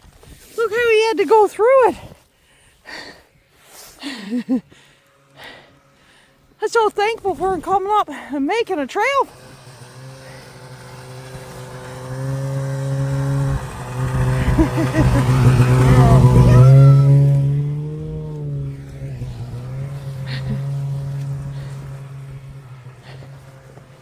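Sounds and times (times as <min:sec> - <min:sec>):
snowmobile engine running: 0:00.6 - 0:02.1, 0:02.9 - 0:24.0.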